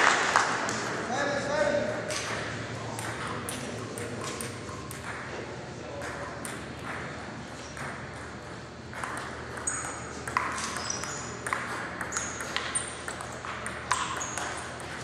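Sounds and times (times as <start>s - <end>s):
table tennis ball pinging: 2.0s - 5.4s, 6.0s - 15.0s.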